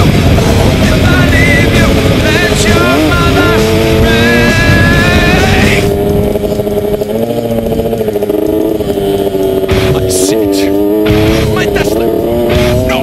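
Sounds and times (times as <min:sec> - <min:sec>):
motocross bike engines running hard: 0:00.0 - 0:13.0.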